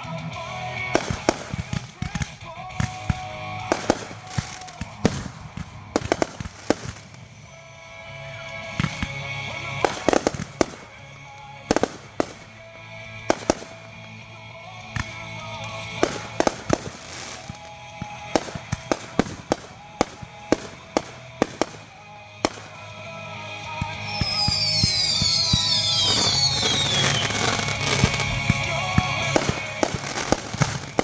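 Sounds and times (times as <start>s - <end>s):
fireworks bangs and pops: 0.0s - 7.6s, 8.2s - 31.0s
background music: 0.0s - 31.0s.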